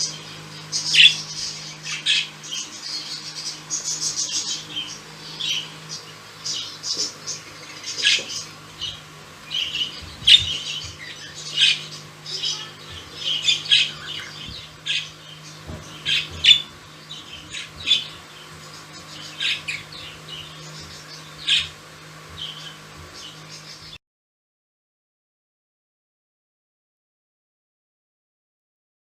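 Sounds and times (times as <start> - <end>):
budgerigars squawking and chirping: 0.0 - 24.0.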